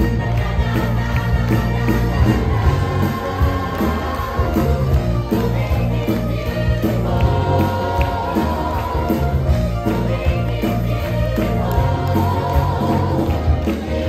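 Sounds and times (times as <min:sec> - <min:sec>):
cast singing together: 0:00.0 - 0:14.0.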